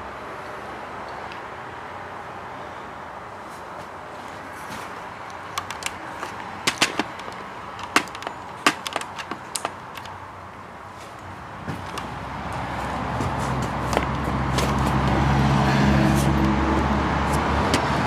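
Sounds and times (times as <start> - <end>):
road vehicle: 0.0 - 18.0.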